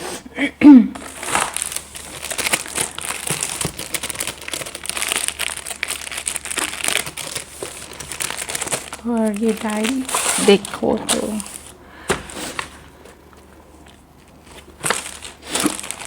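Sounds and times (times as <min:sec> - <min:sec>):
packaging crinkling and rustling: 0:01.0 - 0:16.0.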